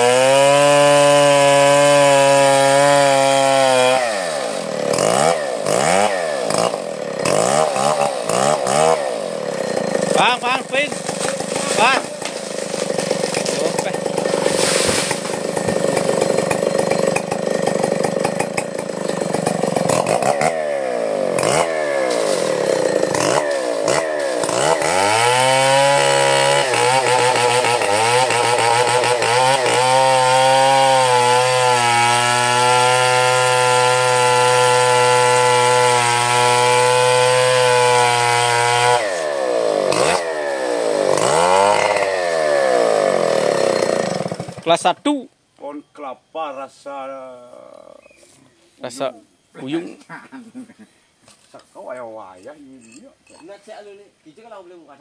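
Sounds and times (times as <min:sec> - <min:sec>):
chainsaw cutting wood: 0:00.0 - 0:45.0.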